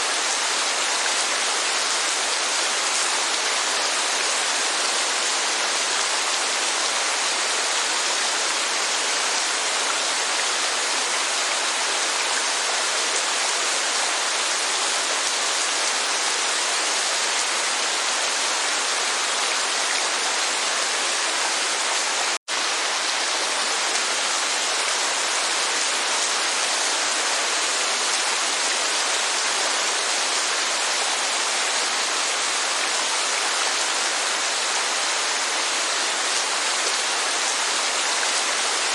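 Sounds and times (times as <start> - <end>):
rain: 0.0 - 38.9
waterfall rushing: 0.0 - 38.9.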